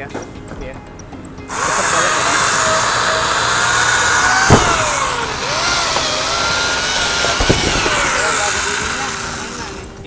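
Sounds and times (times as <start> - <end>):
chainsaw chain cutting wood: 1.5 - 10.0.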